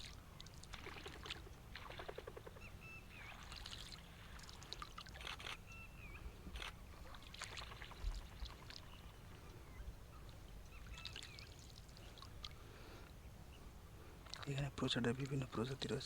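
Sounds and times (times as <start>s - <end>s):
low rumble of water: 0.0s - 16.0s.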